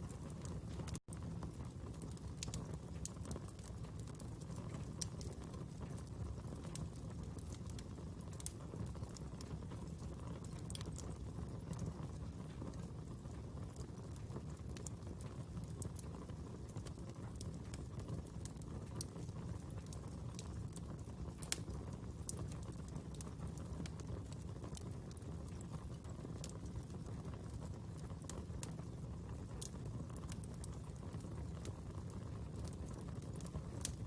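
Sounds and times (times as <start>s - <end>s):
fire crackling: 0.0s - 34.0s
flames rumbling: 0.0s - 34.0s.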